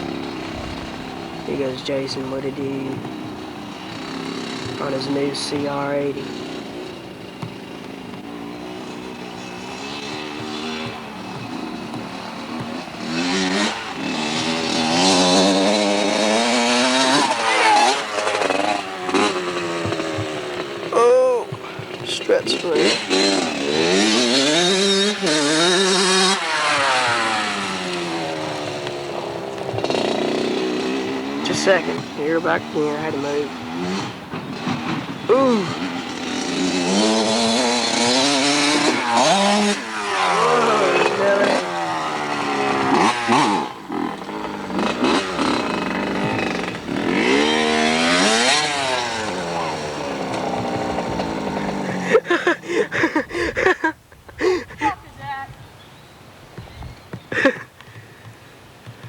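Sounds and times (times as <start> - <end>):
dirt bike engine revving: 0.0 - 55.4, 57.2 - 59.0.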